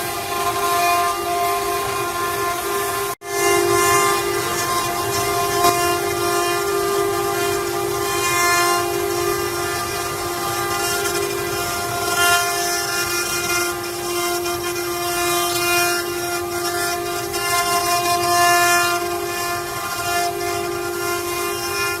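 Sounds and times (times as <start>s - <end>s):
cnc router spindle whining: 0.0s - 22.0s.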